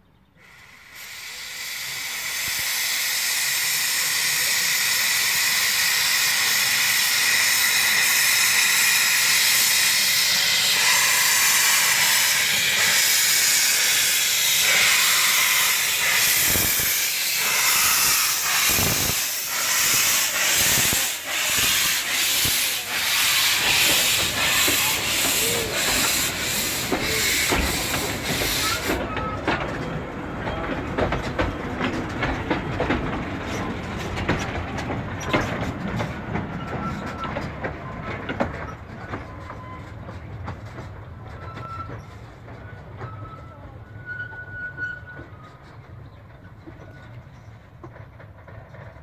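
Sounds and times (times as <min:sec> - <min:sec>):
steam locomotive hissing: 0:00.4 - 0:49.0.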